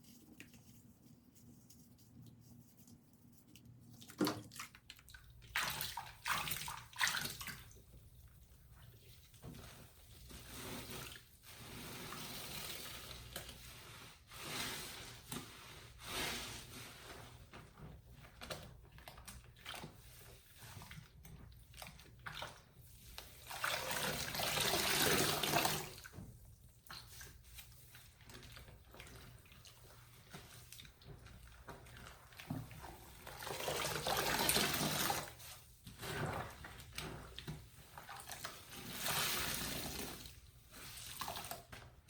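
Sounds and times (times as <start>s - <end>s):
wet sponges being squeezed: 0.0s - 42.0s.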